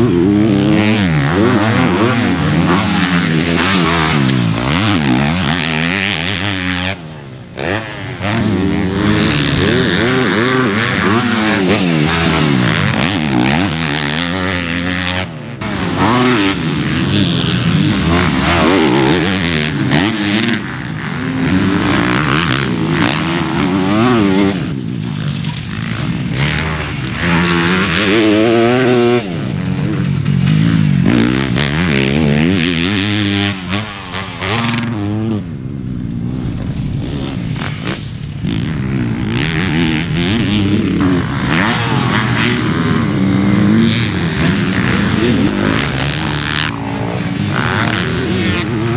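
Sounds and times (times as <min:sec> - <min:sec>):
motocross bikes revving: 0:00.0 - 0:48.9.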